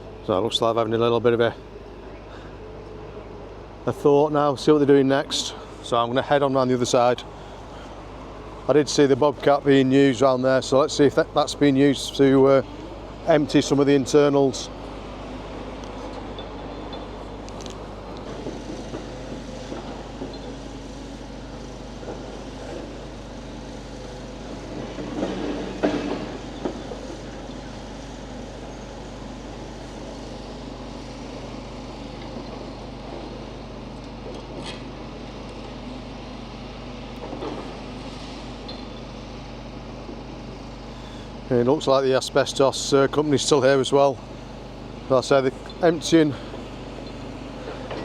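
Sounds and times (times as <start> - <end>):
steady engine hum: 0.0 - 48.0.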